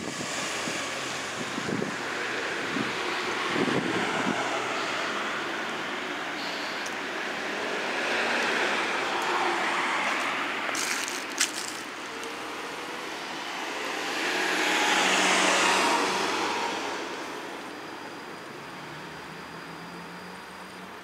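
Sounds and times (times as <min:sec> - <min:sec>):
cars passing on street: 0:00.0 - 0:21.0.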